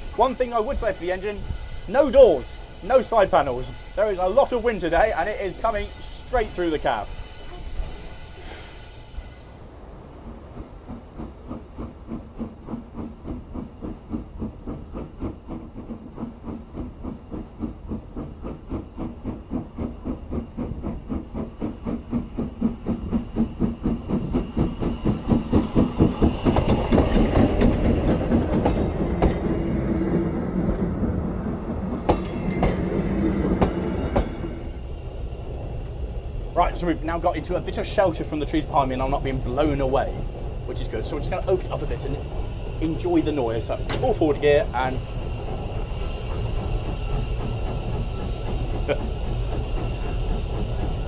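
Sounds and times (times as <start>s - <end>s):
coaches clicking over rails: 0.0s - 51.0s
steam locomotive exhaust chuffing: 0.0s - 51.0s.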